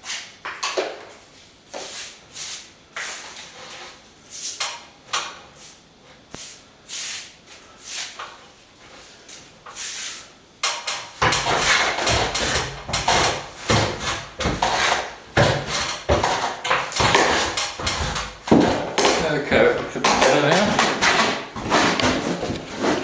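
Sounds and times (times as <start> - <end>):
hand tool scraping plastered wall: 1.7 - 4.9, 6.4 - 23.0.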